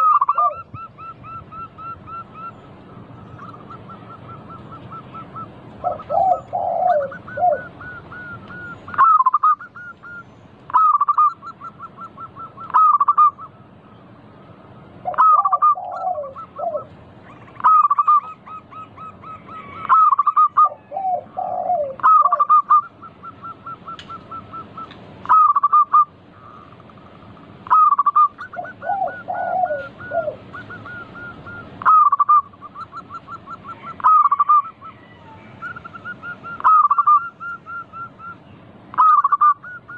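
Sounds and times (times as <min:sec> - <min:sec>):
doves cooing: 0:00.0 - 0:13.8, 0:14.5 - 0:39.9.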